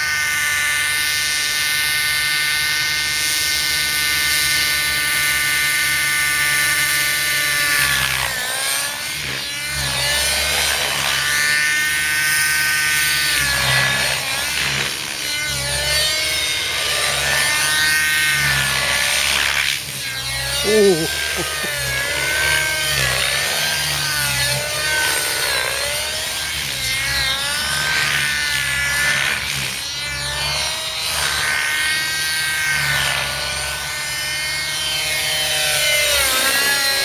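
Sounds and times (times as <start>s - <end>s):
model helicopter engine and rotor: 0.0s - 37.0s.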